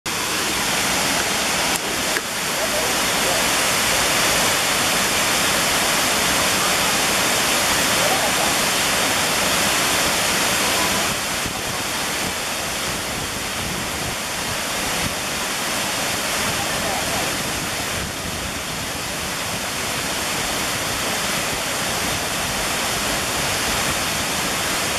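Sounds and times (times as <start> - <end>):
waterfall rushing: 0.1 - 24.9.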